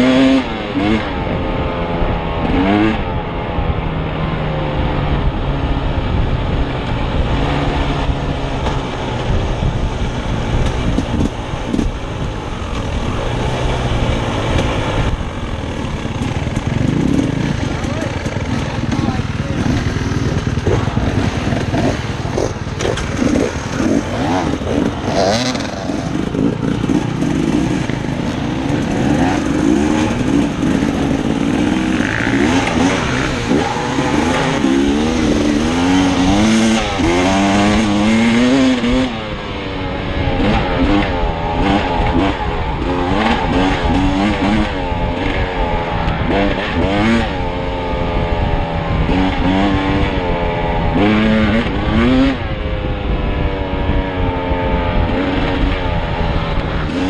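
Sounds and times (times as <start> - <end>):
dirt bike engine revving: 0.0 - 3.2, 4.6 - 57.0
wind rushing: 3.2 - 57.0.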